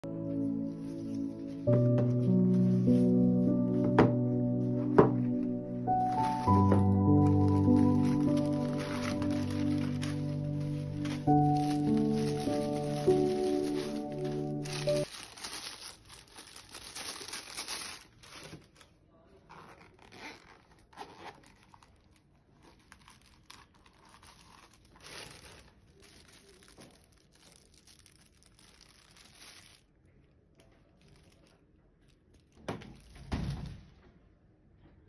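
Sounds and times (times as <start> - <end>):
plastic packaging crinkling: 5.1 - 33.6.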